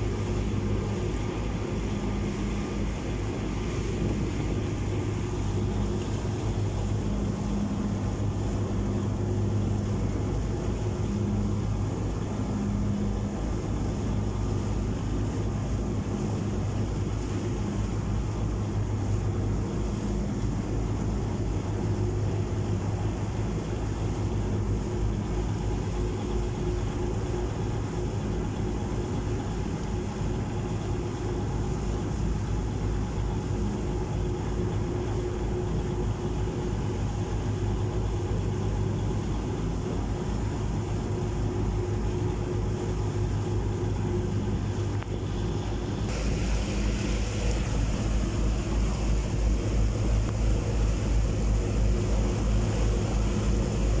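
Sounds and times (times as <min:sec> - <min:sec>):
ferry engine droning: 0:00.0 - 0:54.0
water rushing in wake: 0:00.0 - 0:54.0.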